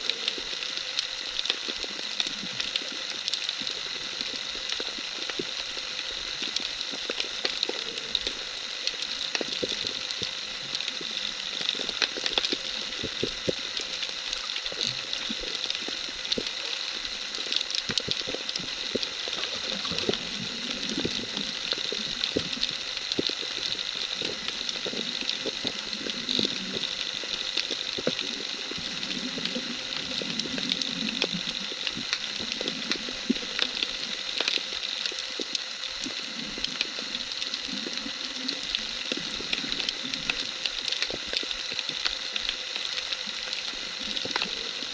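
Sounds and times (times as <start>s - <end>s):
underwater hiss with clicks: 0.0s - 44.9s.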